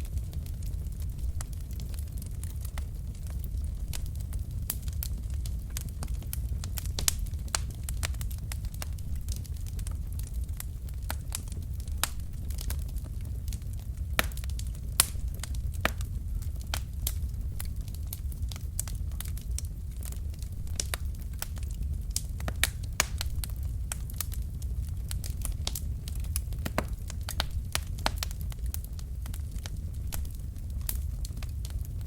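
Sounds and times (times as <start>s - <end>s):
logs crackling and popping: 0.0s - 32.0s
low rumble of flames: 0.0s - 32.0s.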